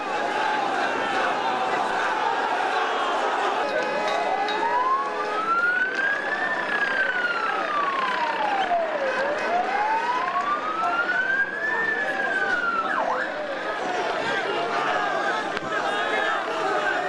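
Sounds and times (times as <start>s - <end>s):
police siren wailing: 0.0s - 17.0s
street background noise: 0.0s - 17.0s.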